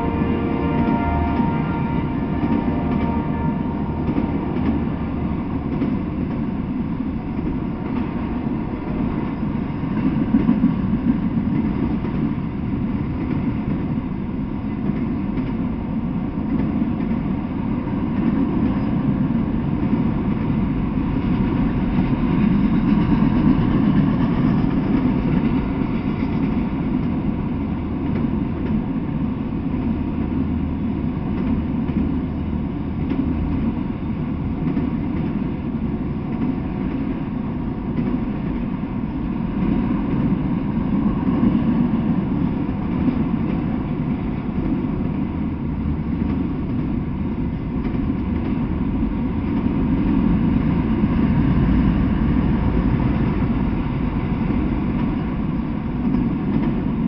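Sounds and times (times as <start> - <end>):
steel wheels running on rails: 0.0 - 57.0.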